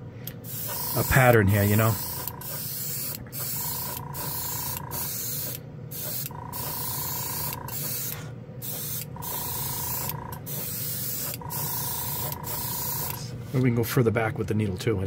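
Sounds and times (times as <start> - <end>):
compressor humming: 0.0 - 13.8
airbrush hissing: 0.5 - 13.3.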